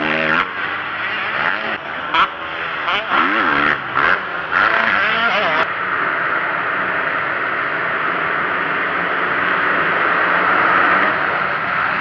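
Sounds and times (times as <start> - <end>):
distant motocross engines droning: 0.0 - 12.0.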